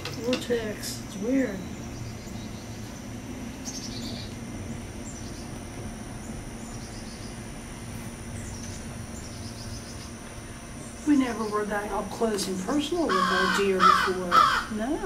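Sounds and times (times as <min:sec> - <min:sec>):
high insect drone: 0:00.0 - 0:15.0
low steady hum: 0:00.0 - 0:15.0.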